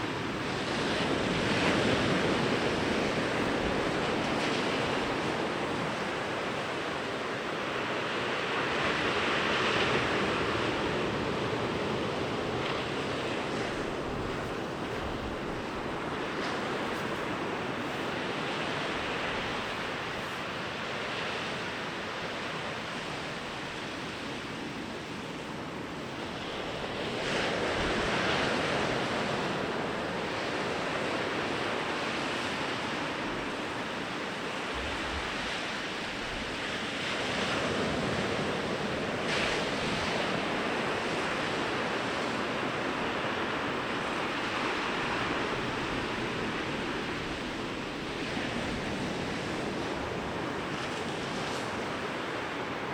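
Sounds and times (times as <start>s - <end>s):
sea waves breaking on beach: 0.0s - 52.9s.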